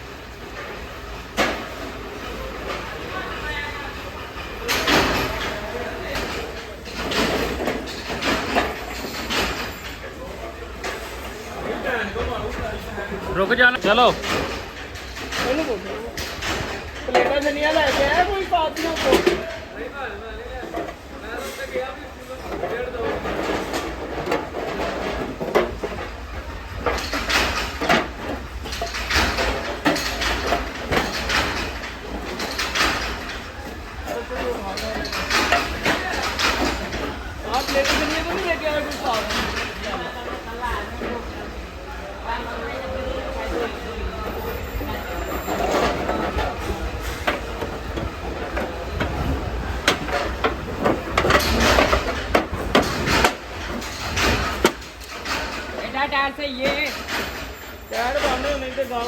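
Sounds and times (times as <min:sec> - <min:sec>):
metal clanking and scraping: 0:04.4 - 0:10.2, 0:10.8 - 0:19.8, 0:20.6 - 0:41.5, 0:43.7 - 0:59.0.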